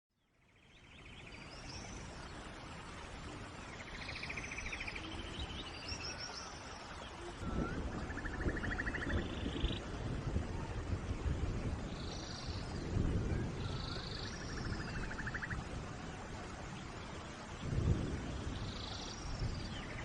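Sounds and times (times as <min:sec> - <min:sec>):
birds singing: 0:00.5 - 0:09.8, 0:11.8 - 0:15.7, 0:16.7 - 0:20.0
steady rain: 0:00.5 - 0:20.0.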